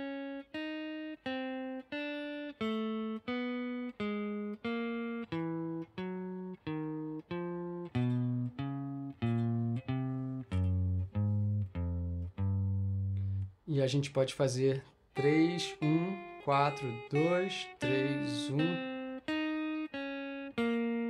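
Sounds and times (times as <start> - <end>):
electric guitar picked notes: 0.0 - 13.6, 15.2 - 21.0.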